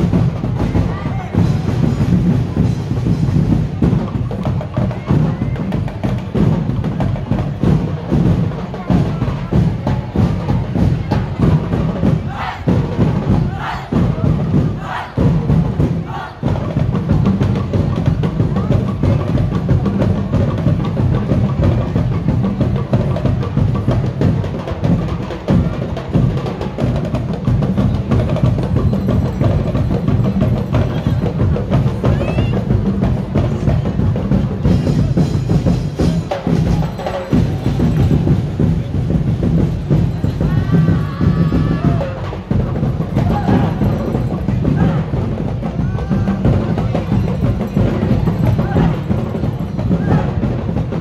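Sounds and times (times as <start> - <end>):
drum ensemble playing fast beat: 0.0 - 51.0.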